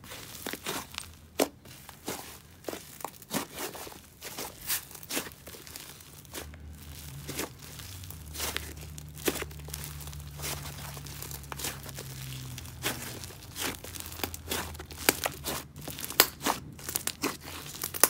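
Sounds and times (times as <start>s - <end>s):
slime squished by hand: 0.1s - 18.0s.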